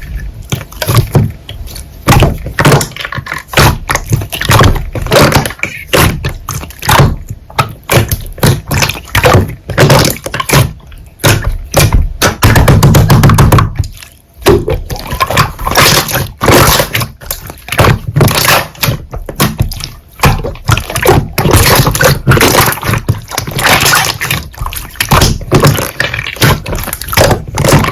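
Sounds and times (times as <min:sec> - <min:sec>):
hands squishing slime: 0:00.0 - 0:27.9.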